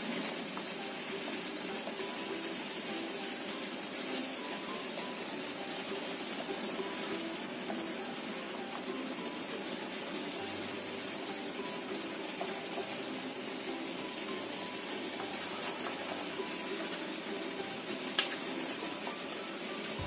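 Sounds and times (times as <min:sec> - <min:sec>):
water boiling with a hiss: 0:00.0 - 0:20.0.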